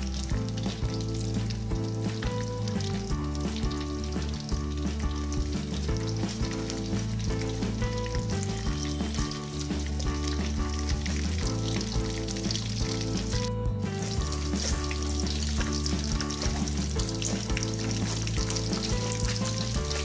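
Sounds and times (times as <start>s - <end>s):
background music: 0.0s - 20.0s
fish sizzling in oil: 0.0s - 20.0s.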